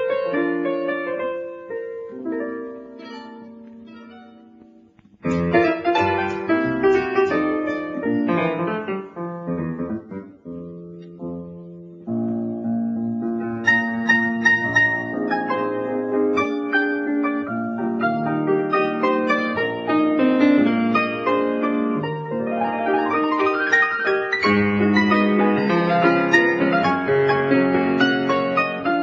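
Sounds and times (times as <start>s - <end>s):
cocktail-style piano music: 0.0s - 29.0s.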